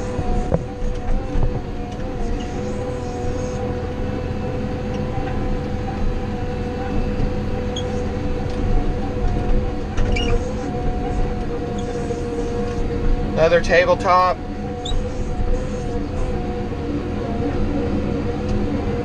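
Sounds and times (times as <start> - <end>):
drivetrain whine: 0.0 - 19.0
loader diesel engine droning: 0.0 - 19.0.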